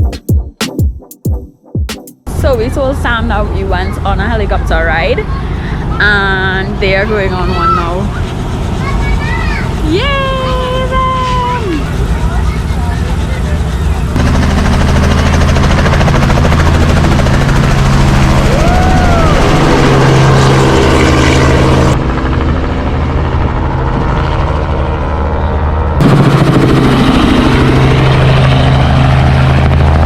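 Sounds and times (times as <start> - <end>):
helicopter engine and rotor drone: 5.2 - 30.0.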